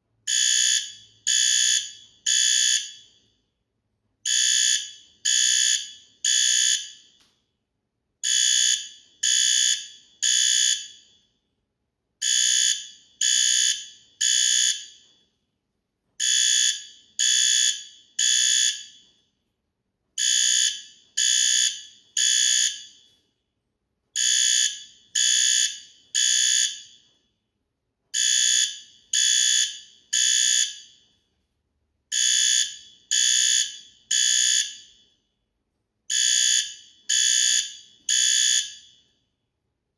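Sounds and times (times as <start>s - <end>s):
fire alarm beeping: 0.3s - 3.6s, 4.2s - 7.4s, 8.2s - 11.6s, 12.2s - 15.5s, 16.2s - 19.5s, 20.2s - 23.5s, 24.1s - 27.5s, 28.1s - 35.5s, 36.1s - 39.4s.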